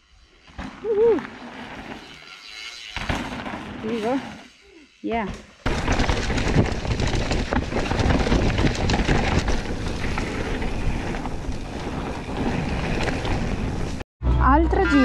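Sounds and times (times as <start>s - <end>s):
bike rattling on rough trail: 0.2s - 14.0s.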